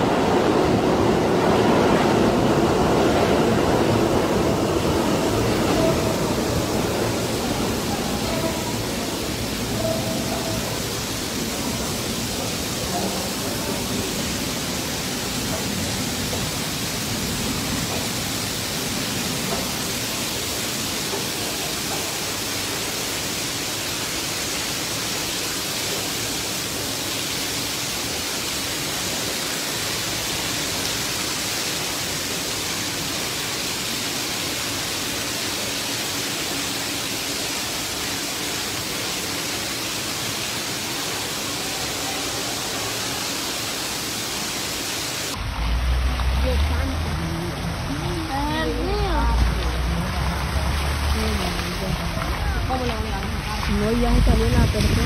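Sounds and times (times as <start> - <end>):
water pouring and splashing: 0.0 - 55.0.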